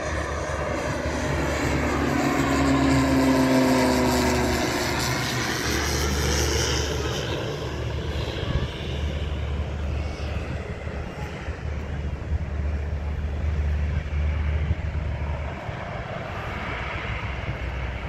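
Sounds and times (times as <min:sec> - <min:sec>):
aircraft engine rumble: 0:00.0 - 0:18.0.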